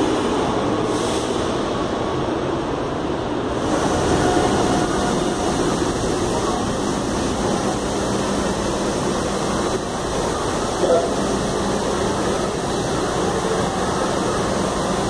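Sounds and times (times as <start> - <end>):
train station rumble: 0.0 - 15.0.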